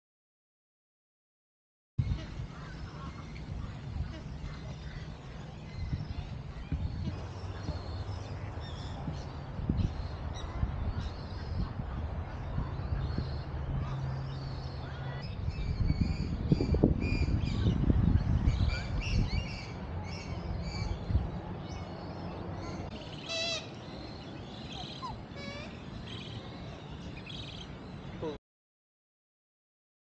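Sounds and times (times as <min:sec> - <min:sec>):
birds chirping and calling: 0:02.0 - 0:28.4.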